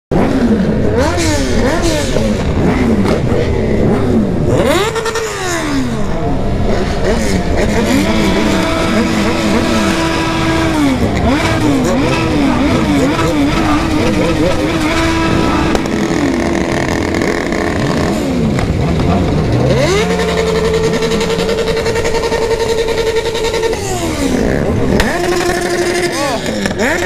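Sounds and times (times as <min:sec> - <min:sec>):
motorcycle engines revving: 0:00.1 - 0:27.0.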